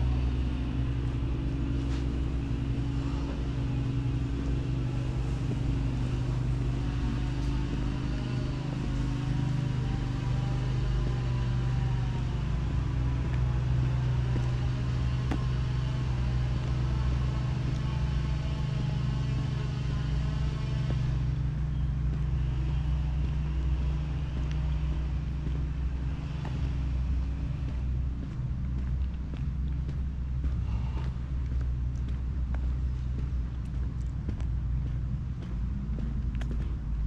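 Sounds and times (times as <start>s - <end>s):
vehicle engine humming: 0.0s - 37.0s.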